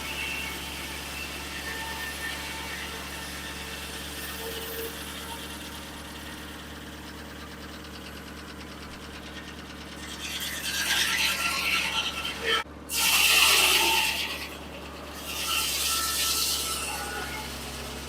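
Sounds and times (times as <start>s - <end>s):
circular saw blade cutting log: 0.0s - 18.0s
sawmill humming: 0.0s - 18.0s.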